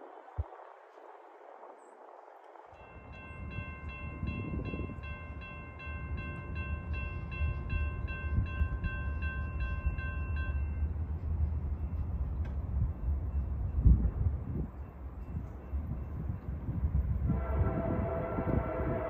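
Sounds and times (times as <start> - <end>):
railroad crossing bell ringing: 2.8 - 19.0.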